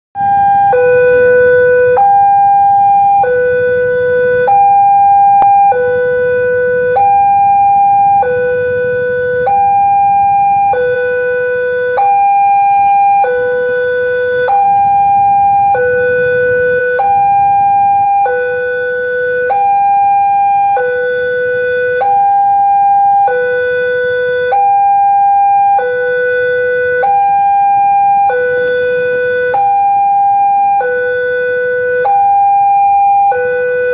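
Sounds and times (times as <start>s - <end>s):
level crossing two-tone alarm: 0.2s - 33.9s
low rumble of traffic: 0.2s - 33.9s.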